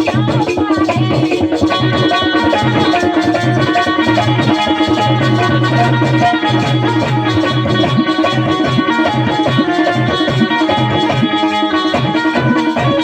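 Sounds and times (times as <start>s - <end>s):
drums keeping a steady beat: 0.0s - 13.0s
held melody line: 0.0s - 13.0s.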